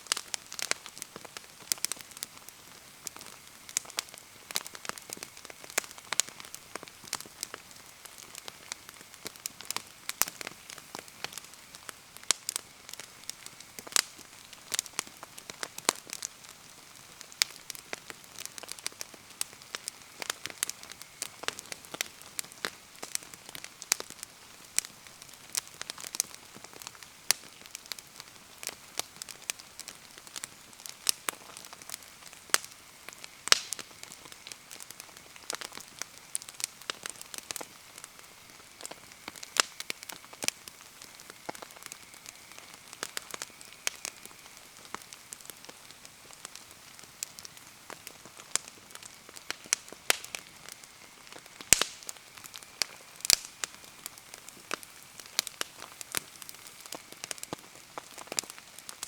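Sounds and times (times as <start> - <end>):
bonfire crackling and popping: 0.0 - 59.0
rainfall hiss: 0.0 - 59.0.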